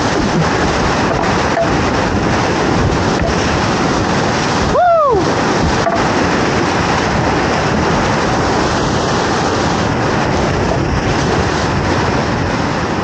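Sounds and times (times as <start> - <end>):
whitewater rushing and splashing: 0.0 - 13.0.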